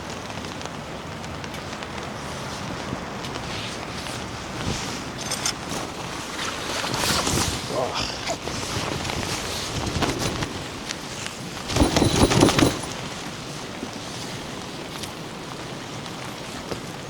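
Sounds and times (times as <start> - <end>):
rain patter: 0.0 - 17.0
crackling handling noise: 1.5 - 15.2.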